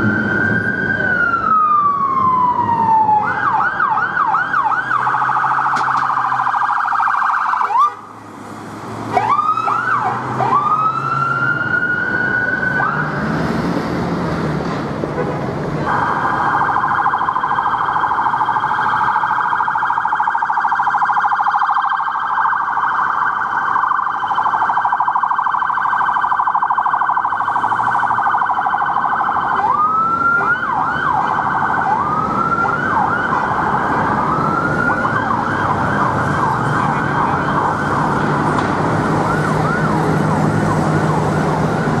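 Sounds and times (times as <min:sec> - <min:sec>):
police siren: 0:00.0 - 0:08.2, 0:09.0 - 0:13.7, 0:15.8 - 0:42.0.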